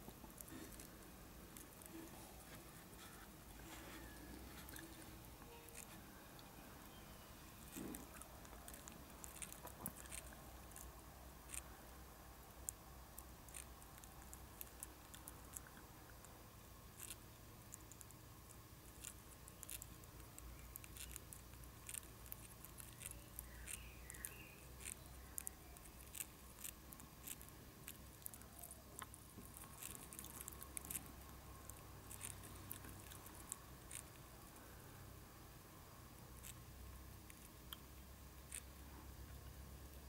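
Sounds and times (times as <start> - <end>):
hornet clicking and scratching: 0.0 - 7.0, 7.6 - 11.8, 12.6 - 16.3, 17.0 - 34.4
low steady hum: 0.0 - 40.0.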